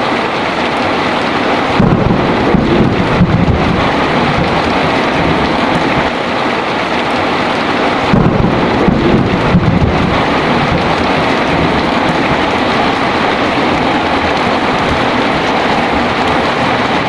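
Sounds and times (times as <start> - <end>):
heavy rain falling: 0.0 - 17.0
low thunder rumble: 1.3 - 6.2, 7.4 - 17.0.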